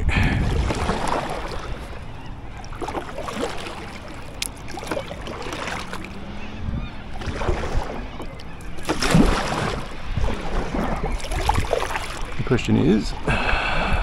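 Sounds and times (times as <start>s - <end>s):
water lapping against kayak hull: 0.0s - 14.0s.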